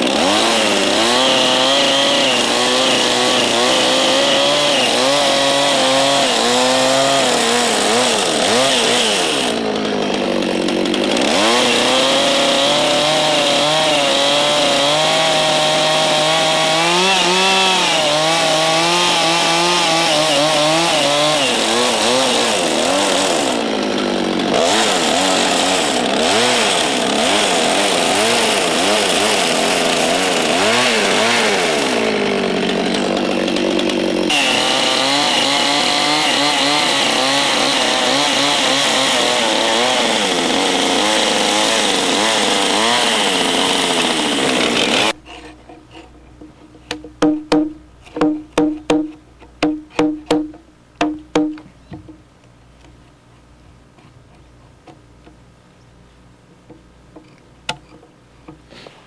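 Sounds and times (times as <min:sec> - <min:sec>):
chainsaw cutting into log: 0:00.0 - 0:52.2.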